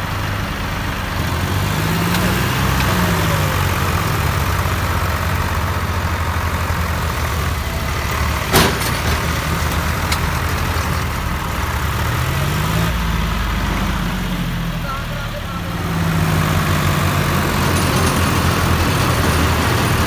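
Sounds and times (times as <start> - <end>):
tractor diesel engines under load: 0.0 - 20.0.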